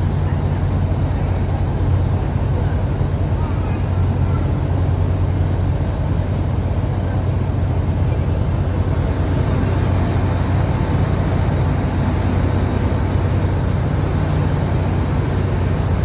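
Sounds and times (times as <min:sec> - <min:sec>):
ferry engine droning: 0:00.0 - 0:16.0.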